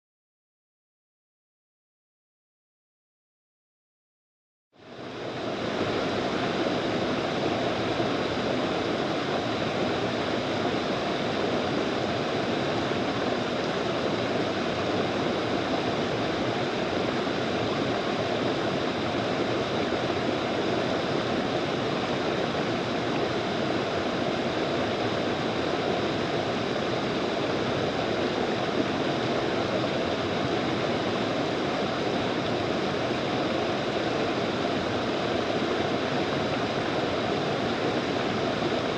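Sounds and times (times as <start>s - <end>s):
mountain stream rushing: 4.8s - 38.9s.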